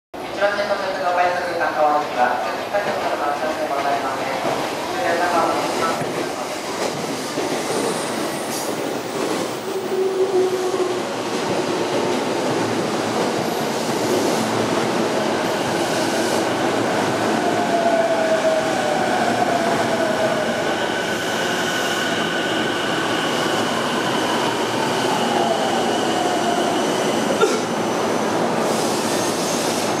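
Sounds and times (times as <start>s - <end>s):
electric trains rumbling and whining: 2.3s - 30.0s.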